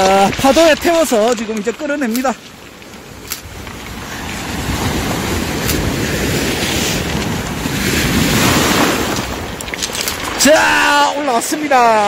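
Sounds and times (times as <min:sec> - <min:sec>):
surf washing over pebbles: 0:00.0 - 0:12.0
wind buffeting microphone: 0:00.0 - 0:12.0.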